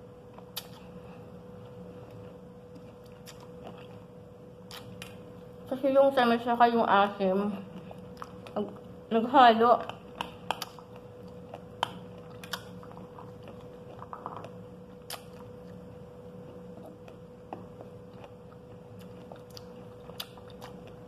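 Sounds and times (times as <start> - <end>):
person chewing: 0.2 - 5.5, 7.7 - 9.0, 9.8 - 21.0.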